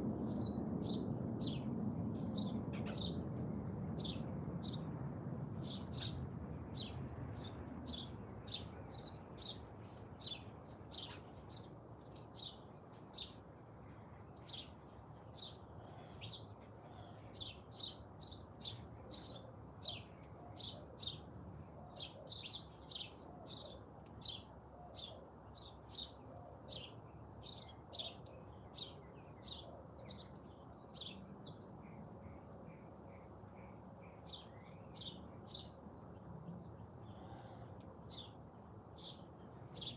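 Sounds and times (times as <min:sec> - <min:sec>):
faint background noise: 0:00.0 - 0:39.9
songbirds chirping: 0:05.5 - 0:39.9.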